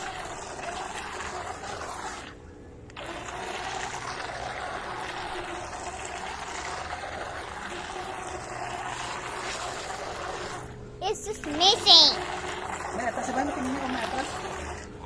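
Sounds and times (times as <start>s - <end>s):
water churning and splashing: 0.0s - 2.4s, 3.0s - 14.9s
small motor whine: 0.0s - 15.0s.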